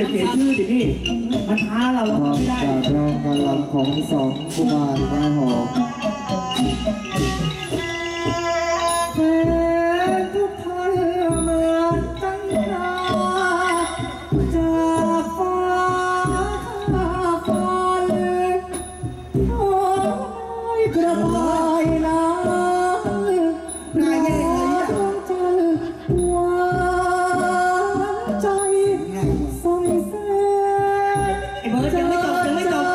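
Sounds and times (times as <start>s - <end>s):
low drum beats: 0.0s - 32.9s
traditional ensemble accompaniment: 0.0s - 32.9s.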